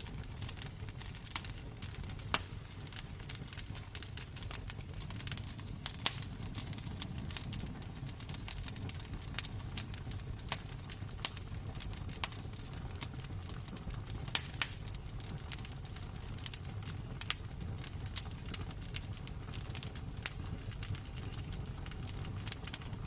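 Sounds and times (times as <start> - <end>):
low rumble of flames: 0.0 - 23.0
sharp fire pops: 0.0 - 23.0
wood fire crackling: 0.0 - 23.0.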